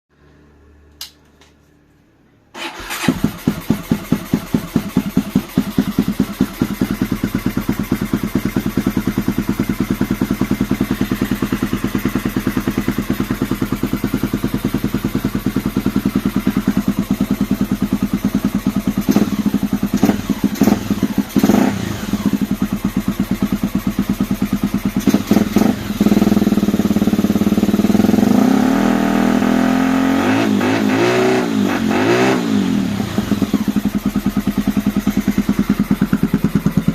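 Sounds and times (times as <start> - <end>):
motorcycle engine revving: 2.6 - 36.9.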